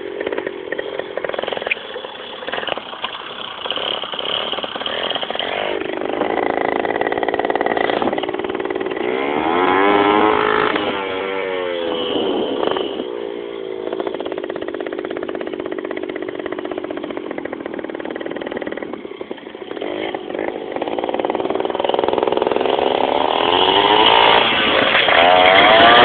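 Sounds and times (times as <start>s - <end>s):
two-stroke motorbike engine revving: 0.0s - 26.0s.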